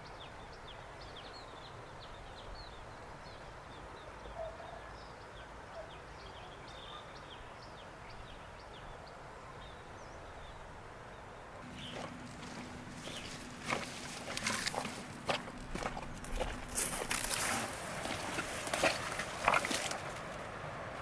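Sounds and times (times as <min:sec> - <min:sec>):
steady outdoor hiss: 0:00.0 - 0:21.0
small birds chirping: 0:00.1 - 0:20.5.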